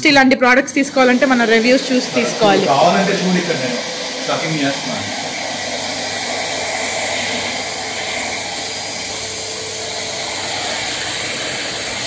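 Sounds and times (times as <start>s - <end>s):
vacuum cleaner running: 0.2s - 12.0s.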